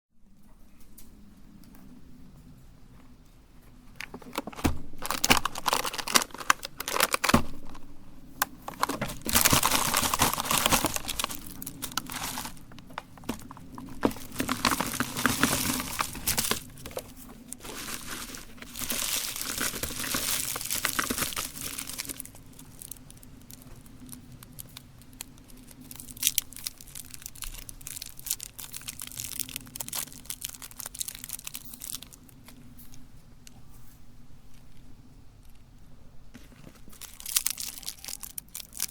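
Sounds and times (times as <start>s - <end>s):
candy wrappers crinkling: 4.0s - 33.1s, 36.4s - 38.9s.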